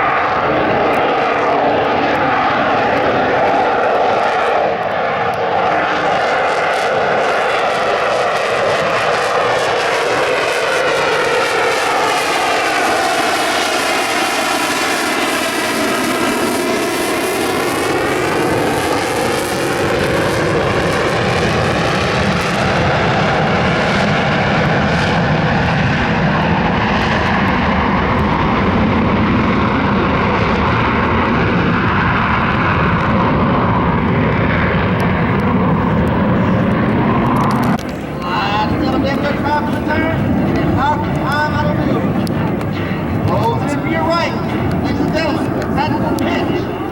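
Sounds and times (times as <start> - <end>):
jet engine passing overhead: 0.0 - 46.9.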